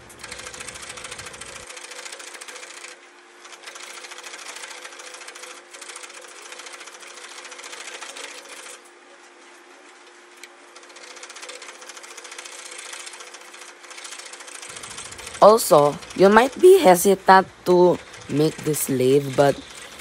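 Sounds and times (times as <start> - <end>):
chisel cutting spinning wood: 0.0 - 8.8, 9.4 - 20.0.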